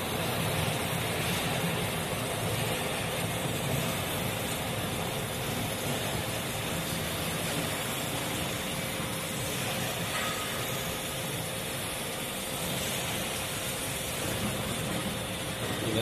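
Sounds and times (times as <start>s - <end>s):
faint steady whine: 0.0s - 16.0s
lathe mechanical hum: 0.0s - 16.0s.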